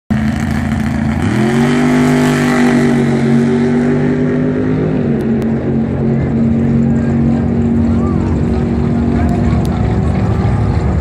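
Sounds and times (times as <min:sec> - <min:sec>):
car engine at raised revs: 0:00.1 - 0:11.0.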